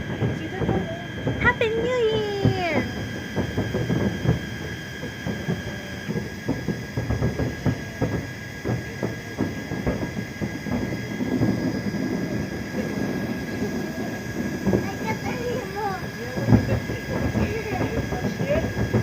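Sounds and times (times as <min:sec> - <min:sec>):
distant fireworks bursting: 0:00.0 - 0:19.0
low rumble: 0:00.0 - 0:19.0.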